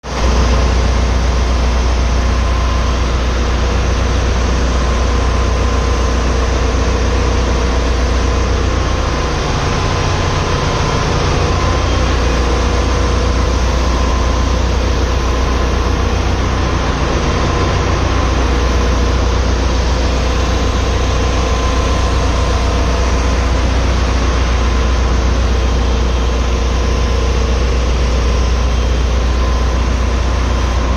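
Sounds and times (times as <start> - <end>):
faint steady whine: 0.1 - 30.9
ship engine deep hum: 0.1 - 30.9.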